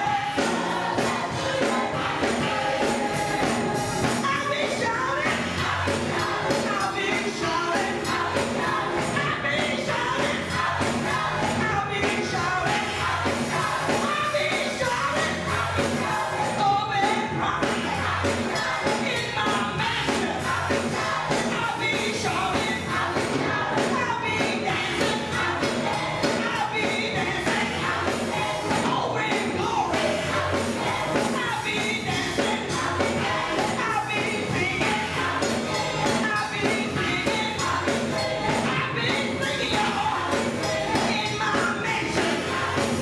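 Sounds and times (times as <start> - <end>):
choir singing gospel: 0.0 - 43.0.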